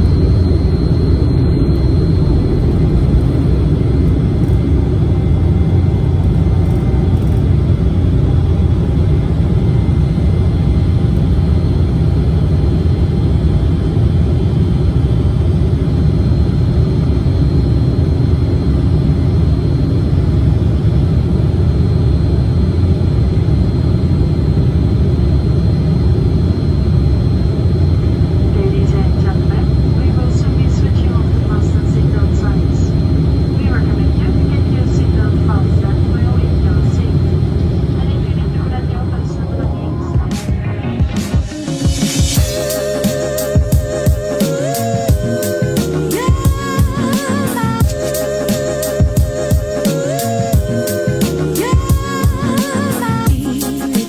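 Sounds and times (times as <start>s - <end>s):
faint high whine: 0.0s - 53.3s
jet cabin engine rumble: 0.0s - 54.0s.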